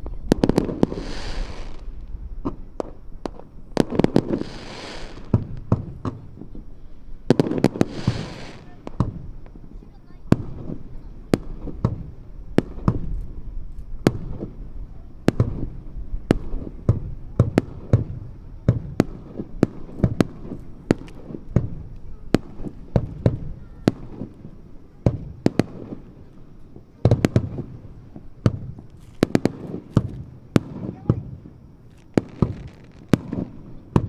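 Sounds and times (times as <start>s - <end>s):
fireworks bursting with sharp cracks: 0.0s - 34.0s.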